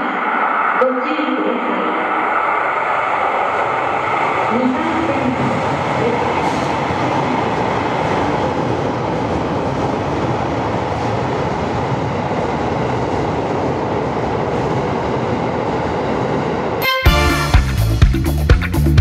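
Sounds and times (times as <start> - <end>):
train wheels rumbling on rail: 0.0 - 16.8.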